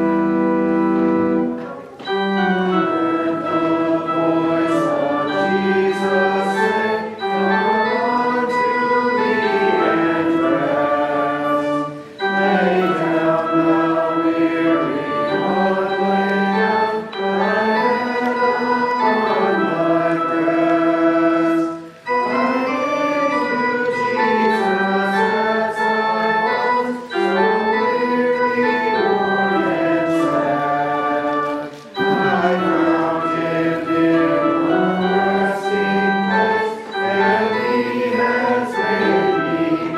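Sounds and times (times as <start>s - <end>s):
church organ: 0.0s - 39.9s
congregation singing a hymn: 0.0s - 39.9s.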